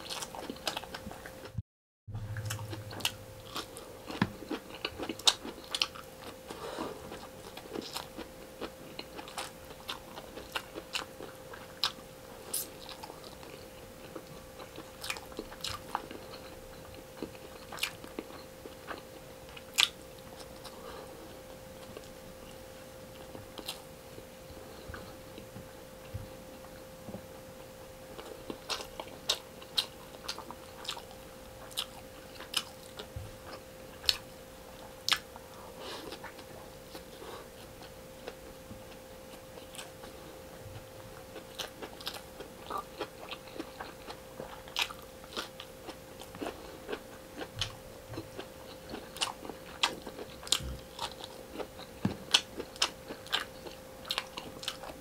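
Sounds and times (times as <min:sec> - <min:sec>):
chewing crunches: 0:00.0 - 0:01.4, 0:02.3 - 0:20.8, 0:28.1 - 0:38.6, 0:41.2 - 0:55.0
faint steady hum: 0:00.0 - 0:55.0.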